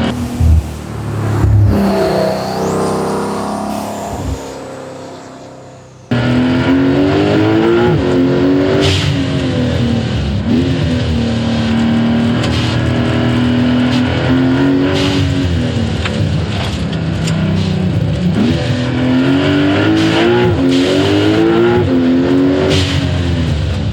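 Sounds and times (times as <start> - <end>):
car engine running loud: 0.0 - 23.9.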